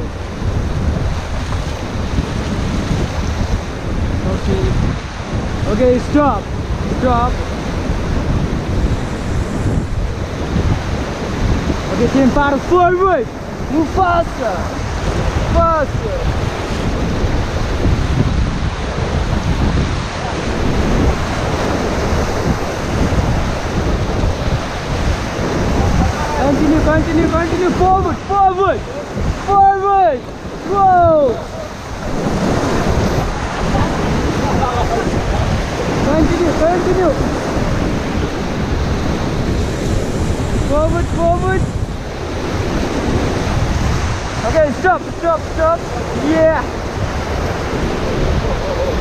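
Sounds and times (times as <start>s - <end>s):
whitewater rushing: 0.0s - 49.0s
wind buffeting microphone: 0.0s - 49.0s.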